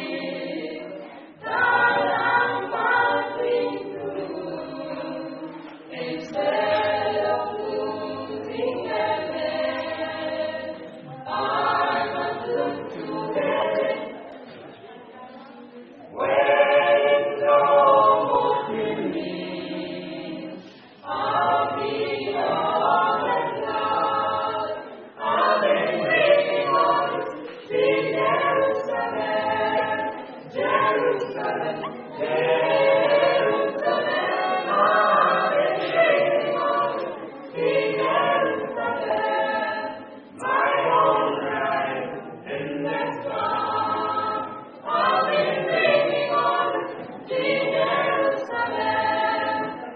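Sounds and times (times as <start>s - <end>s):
vocal quartet singing in harmony: 0.0s - 14.7s, 16.0s - 49.9s.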